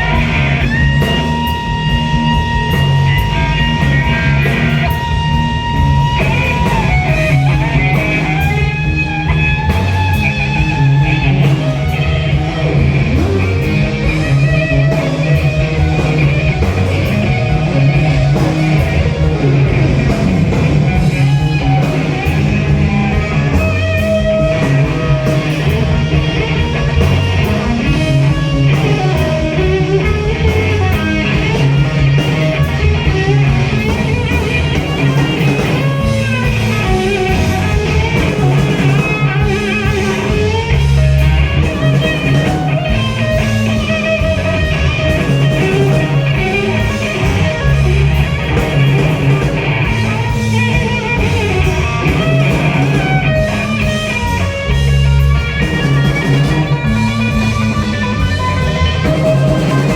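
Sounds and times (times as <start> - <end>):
bass guitar: 0.0 - 59.9
drums: 0.0 - 59.9
electric guitar with bent notes: 0.0 - 59.9.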